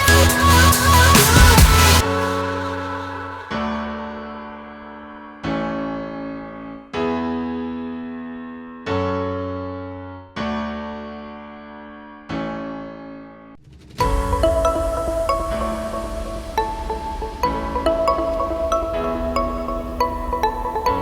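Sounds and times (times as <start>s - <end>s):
slow piano-like keyboard chords: 2.0s - 13.6s, 14.2s - 21.0s.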